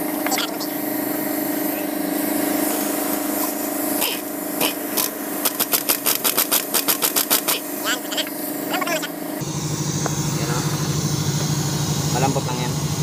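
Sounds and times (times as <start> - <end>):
pneumatic impact wrench hammering: 0.0 - 12.2
impact wrench humming: 0.0 - 13.0.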